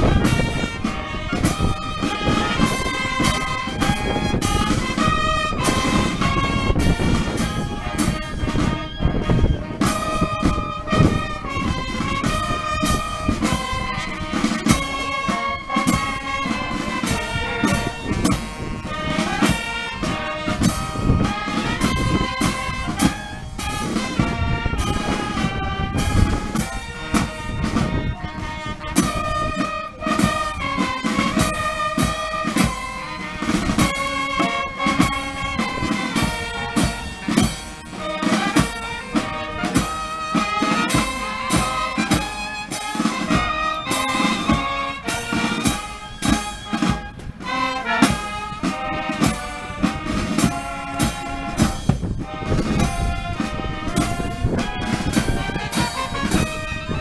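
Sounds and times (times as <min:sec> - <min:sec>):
brass instruments playing march: 0:00.0 - 0:57.0
snare and bass drum beats: 0:00.0 - 0:57.0.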